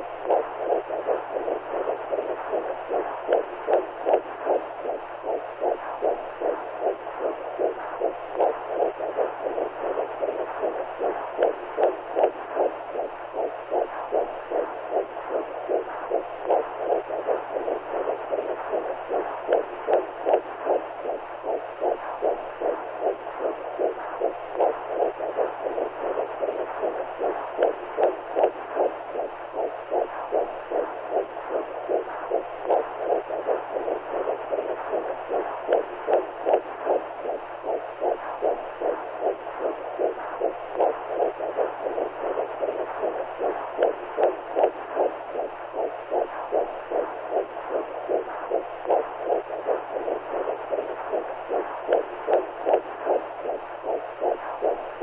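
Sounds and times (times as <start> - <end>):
faint low hum: 0.0 - 55.0
pulsing heartbeat-like whooshing: 0.0 - 55.0.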